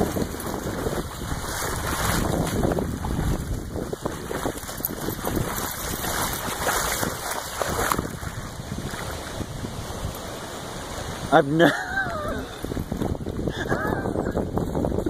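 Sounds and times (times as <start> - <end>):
floodwater sloshing and splashing: 0.0 - 15.0.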